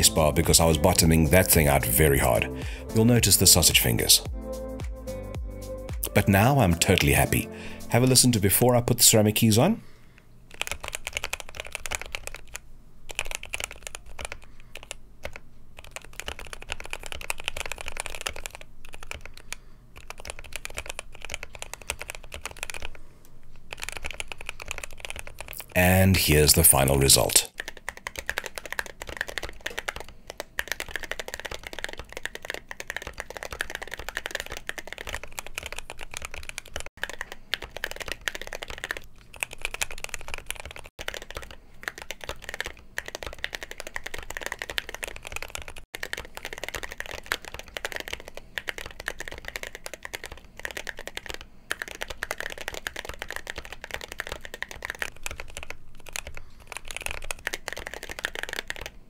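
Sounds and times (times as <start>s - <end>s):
mechanical keyboard typing: 6.1s - 7.4s, 10.5s - 23.0s, 23.7s - 59.0s.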